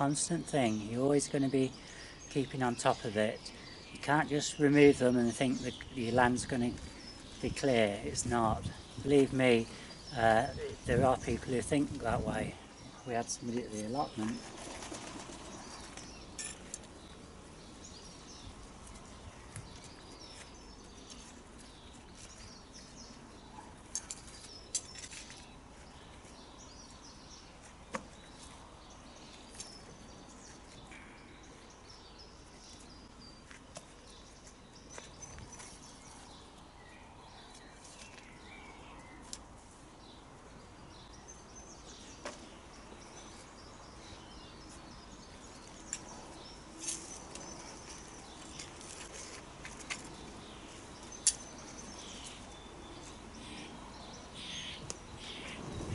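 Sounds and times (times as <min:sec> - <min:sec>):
birds chirping and singing: 0:00.0 - 0:55.9.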